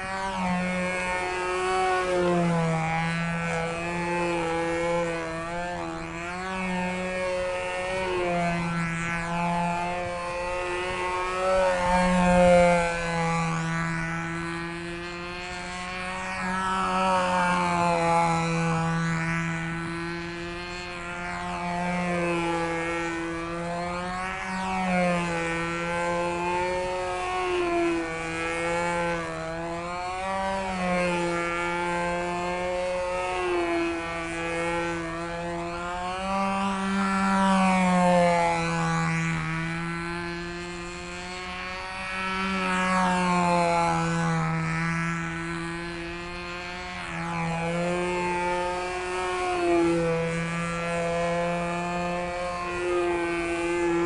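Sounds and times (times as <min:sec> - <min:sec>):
model plane engine buzzing: 0:00.0 - 0:54.0.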